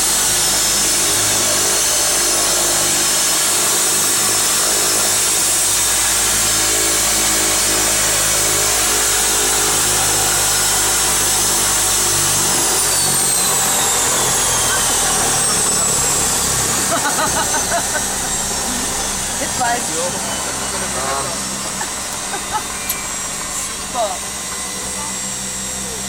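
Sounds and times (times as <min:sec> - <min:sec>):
high turbine whine: 0:00.0 - 0:26.0
turboprop engine drone: 0:00.0 - 0:26.0.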